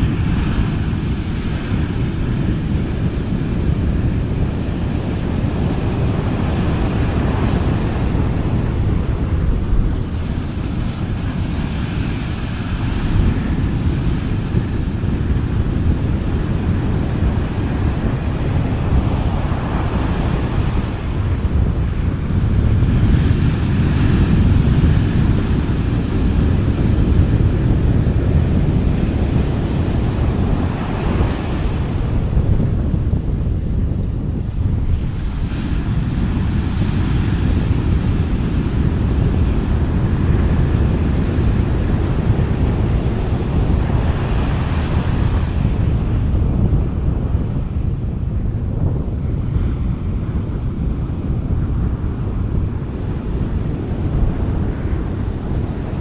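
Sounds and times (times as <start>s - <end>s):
sea waves washing onto beach: 0.0s - 56.0s.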